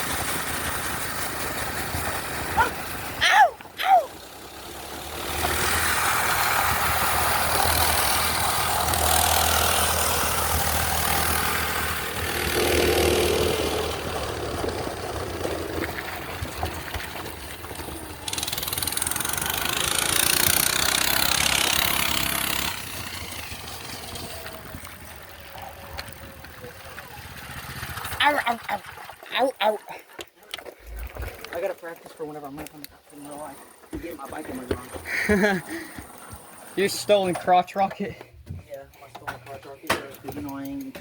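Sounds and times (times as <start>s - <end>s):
small engine running: 0.0s - 30.0s, 30.8s - 38.3s.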